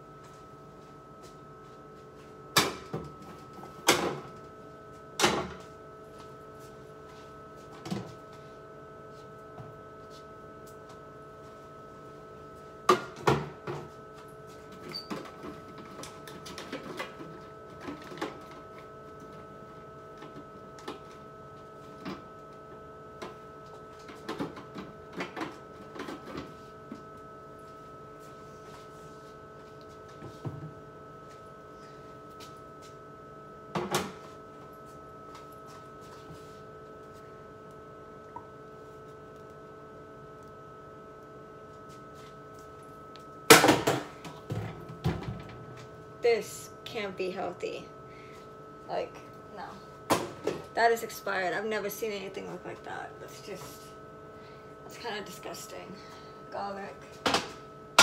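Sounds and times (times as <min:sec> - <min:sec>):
refrigerator hum: 0:00.0 - 0:58.0.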